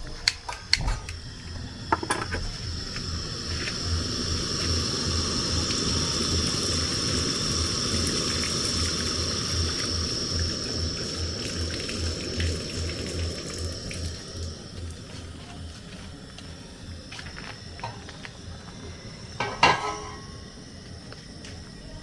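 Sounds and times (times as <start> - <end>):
oil sizzling in a pan: 0.9 - 22.0
steady high-pitched tone: 1.3 - 11.4, 12.1 - 22.0.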